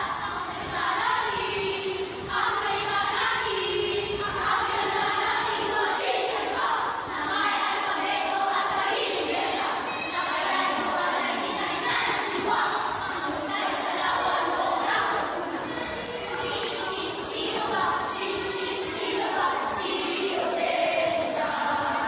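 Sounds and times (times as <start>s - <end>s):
children chanting in unison: 0.0s - 22.0s.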